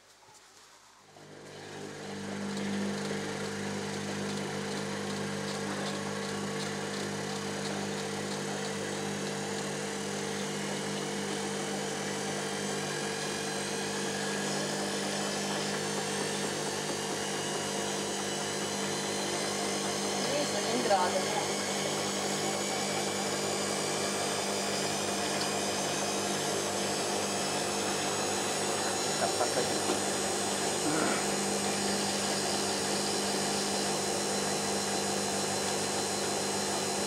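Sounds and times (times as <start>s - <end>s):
washing machine spinning: 1.1s - 37.0s.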